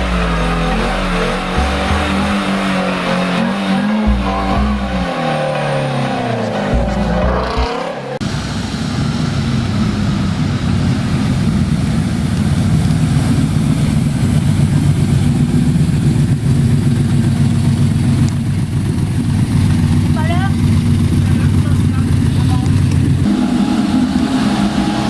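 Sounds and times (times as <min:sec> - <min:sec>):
car engine revving in burnout: 0:00.0 - 0:25.0
car engine running at low speed: 0:00.0 - 0:25.0.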